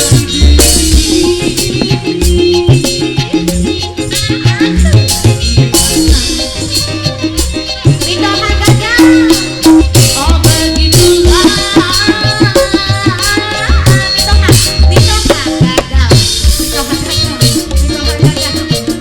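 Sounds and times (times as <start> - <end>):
melody bending in pitch: 0.0 - 15.7
steady drum beat: 0.0 - 19.0.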